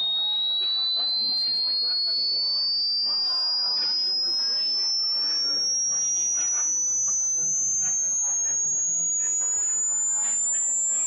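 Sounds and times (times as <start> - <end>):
rising sine tone sweep: 0.0 - 11.0.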